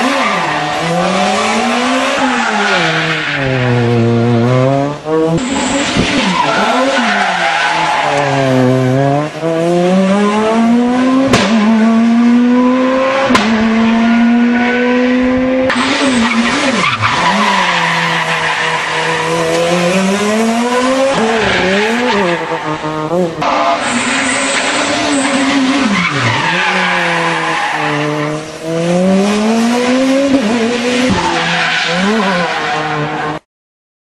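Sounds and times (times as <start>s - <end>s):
rally car engine revving: 0.0s - 33.4s.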